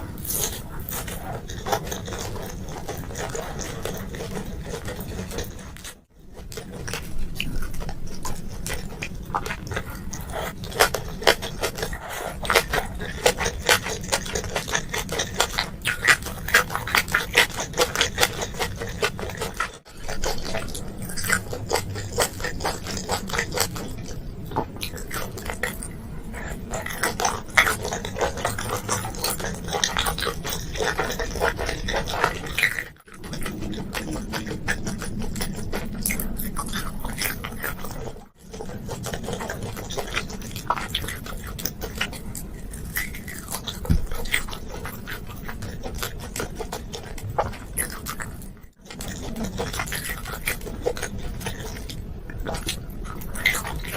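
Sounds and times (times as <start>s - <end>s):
person chewing with wet smacks: 0.0s - 53.9s.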